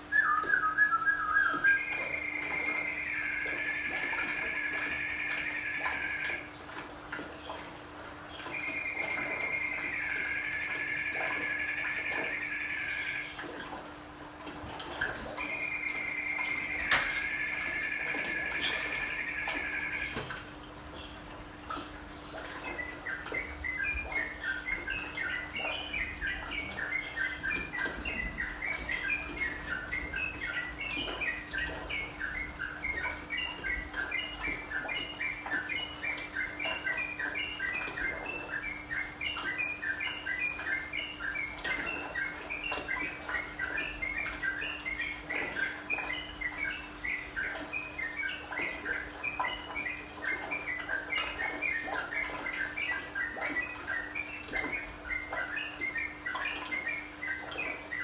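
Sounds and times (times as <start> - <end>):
bird chirping song: 0.1 - 6.5, 15.3 - 58.0.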